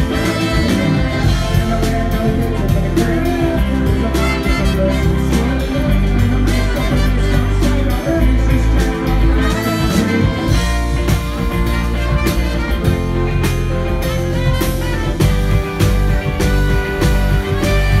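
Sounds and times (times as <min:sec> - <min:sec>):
bass guitar: 0:00.0 - 0:18.0
drums: 0:00.0 - 0:18.0
electric guitar: 0:00.0 - 0:18.0
trumpet and saxophone horns: 0:00.0 - 0:18.0.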